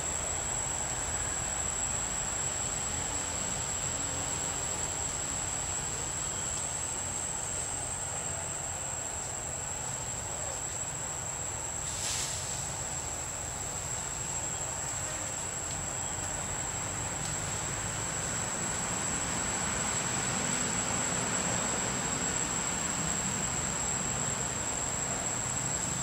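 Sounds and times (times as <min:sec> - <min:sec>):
high-pitched insect drone: 0:00.1 - 0:26.0.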